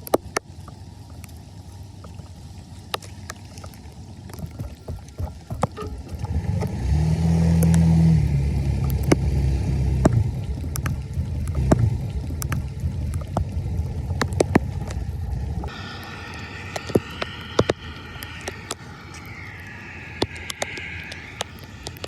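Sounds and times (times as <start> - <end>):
low motor-like rumble: 0.4 - 22.0.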